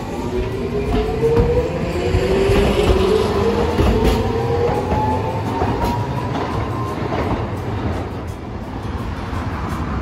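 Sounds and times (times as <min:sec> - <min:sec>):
tram motors whining: 0:00.0 - 0:09.8
wheels rumbling on rails: 0:00.0 - 0:10.0.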